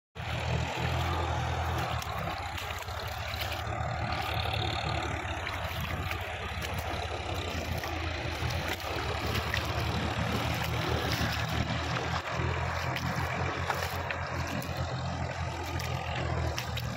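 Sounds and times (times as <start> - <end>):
distant tractor engine: 0.2 - 16.9.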